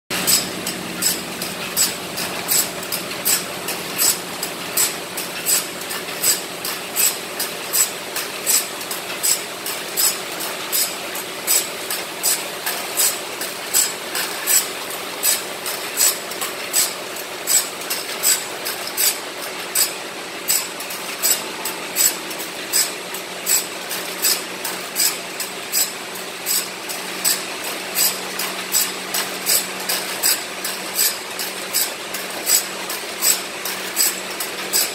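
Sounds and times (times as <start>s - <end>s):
grinding wheel rasping on teeth: 0.2s - 34.9s.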